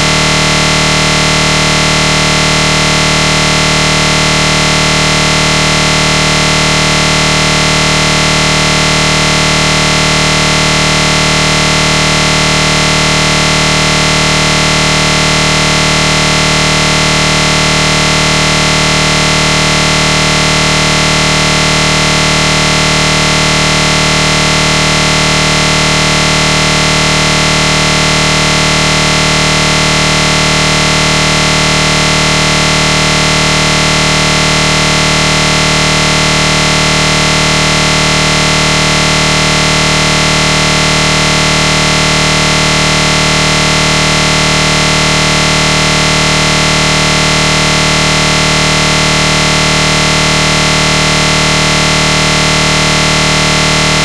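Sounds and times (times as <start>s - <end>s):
loud buzzing drone: 0.0s - 54.0s.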